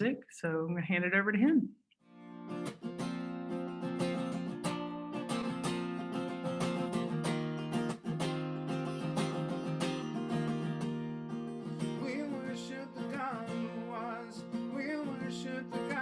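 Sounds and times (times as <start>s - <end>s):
acoustic guitar strumming: 2.2s - 16.0s.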